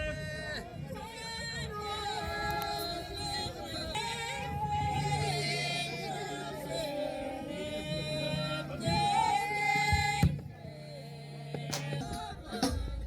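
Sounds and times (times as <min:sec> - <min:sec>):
person singing ornamented melody: 0:00.0 - 0:12.8.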